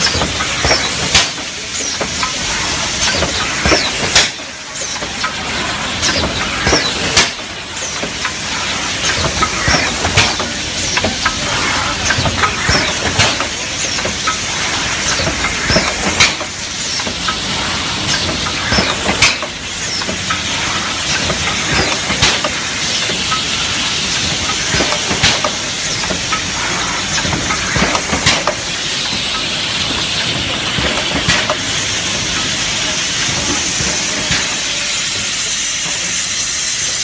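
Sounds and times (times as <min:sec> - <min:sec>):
machine clacking: 0:00.0 - 0:36.6
filling machine running: 0:00.0 - 0:37.0.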